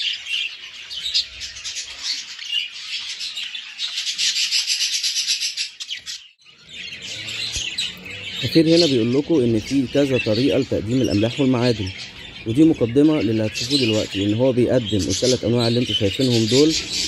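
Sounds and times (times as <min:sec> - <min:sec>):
budgerigars chattering: 0:00.0 - 0:17.0.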